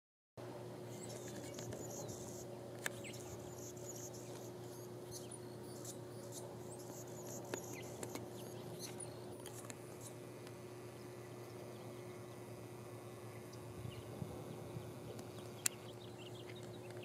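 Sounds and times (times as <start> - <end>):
steady low hum: 0.4 - 17.0.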